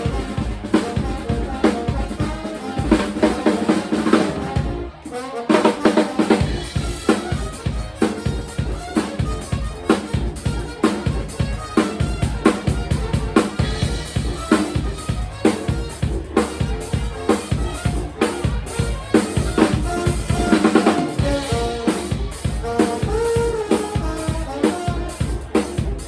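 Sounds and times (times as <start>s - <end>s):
drum kit beat: 0.0s - 26.0s
live band playing: 0.0s - 26.0s.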